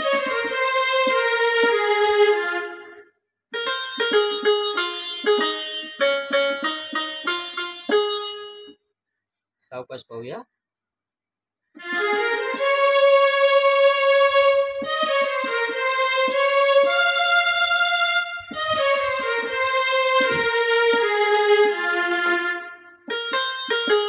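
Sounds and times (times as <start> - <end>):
keyboard playing slow melody: 0.0 - 8.8, 11.7 - 24.0.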